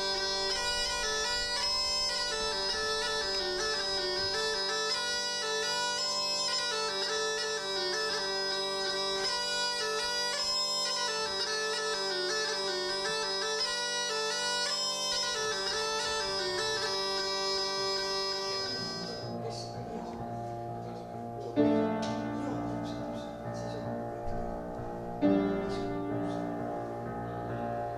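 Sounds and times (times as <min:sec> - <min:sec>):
bagpipe music: 0:00.0 - 0:27.9.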